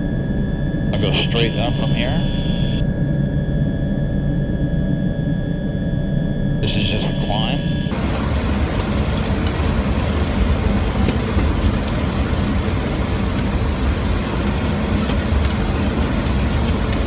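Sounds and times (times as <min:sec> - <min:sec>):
cockpit roar of airflow and engines: 0:00.0 - 0:17.0.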